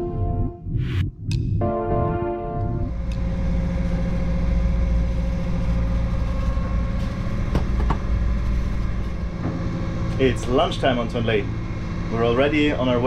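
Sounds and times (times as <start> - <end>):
boat engine humming: 1.6 - 13.0.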